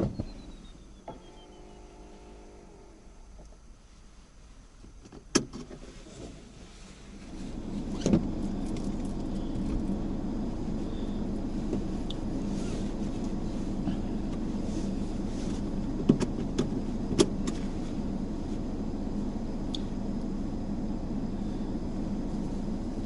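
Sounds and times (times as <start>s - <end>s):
car engine hum: 0.0s - 23.0s
road noise: 0.0s - 23.0s.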